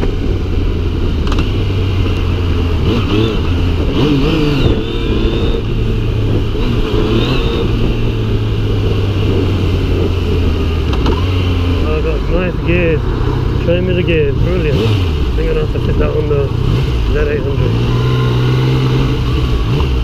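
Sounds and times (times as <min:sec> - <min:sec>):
motorcycle engine revving: 0:00.0 - 0:20.0
steady low rumble: 0:00.0 - 0:20.0.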